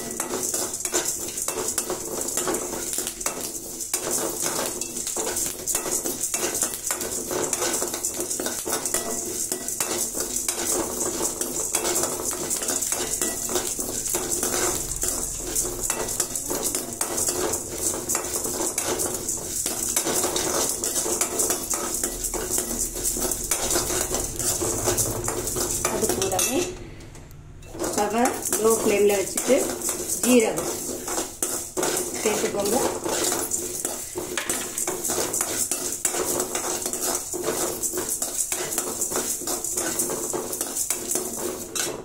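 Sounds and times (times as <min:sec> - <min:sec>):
grains rattling in pan: 0:00.0 - 0:26.7, 0:27.7 - 0:42.0
metal spoon scraping pan: 0:00.0 - 0:42.0.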